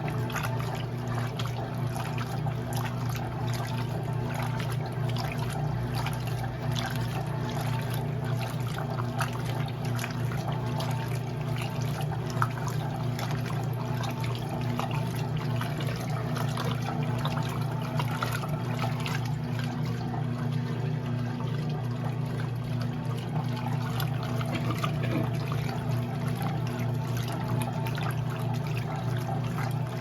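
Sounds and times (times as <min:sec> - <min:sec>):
washing machine motor hum: 0:00.0 - 0:30.0
water trickling and splashing: 0:00.0 - 0:30.0.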